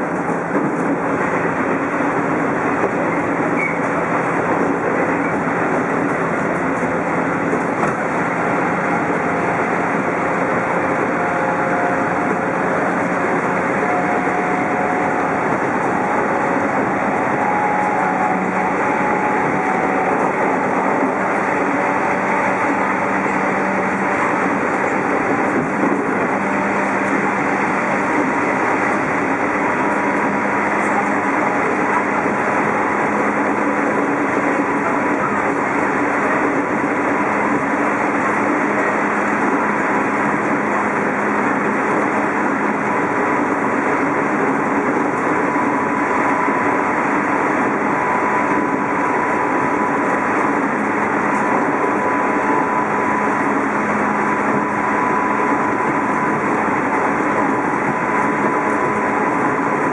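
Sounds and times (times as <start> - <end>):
train motor whine: 0.0 - 59.9
train wheels rumbling on rail: 0.0 - 59.9.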